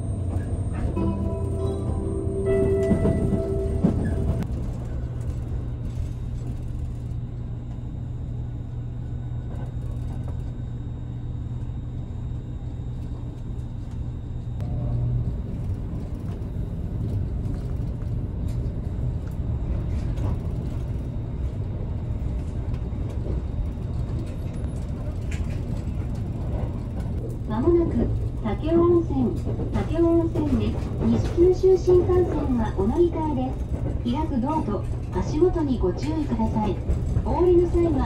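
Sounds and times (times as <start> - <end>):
wheels rumbling on rail: 0.0 - 10.6, 12.9 - 38.0.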